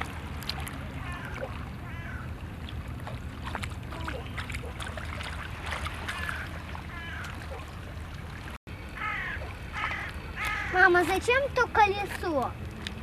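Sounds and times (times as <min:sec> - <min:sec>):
water washing at shore: 0:00.0 - 0:13.0.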